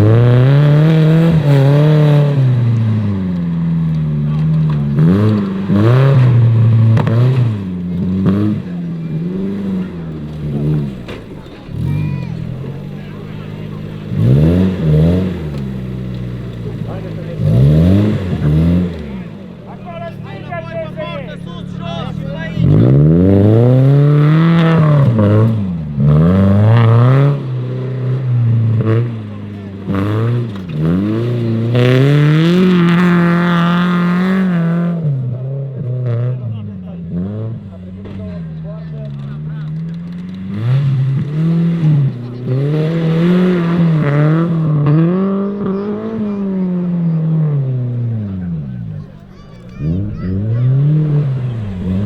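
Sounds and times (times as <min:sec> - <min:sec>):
off-road vehicle engine revving: 0:00.0 - 0:52.0.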